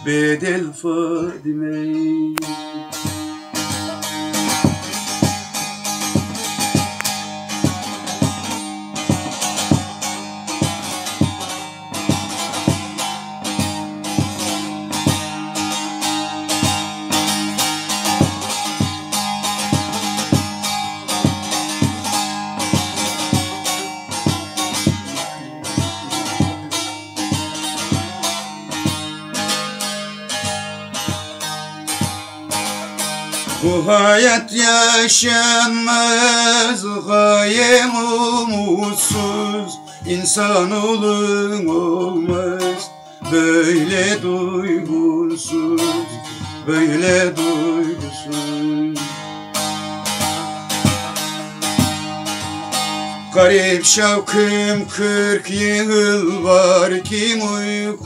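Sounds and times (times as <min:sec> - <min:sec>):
plucked long-necked lute: 0:00.0 - 0:58.0.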